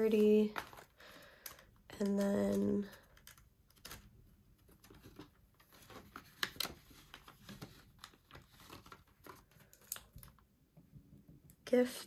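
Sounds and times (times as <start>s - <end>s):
plastic pockets crinkling: 0.0s - 10.5s.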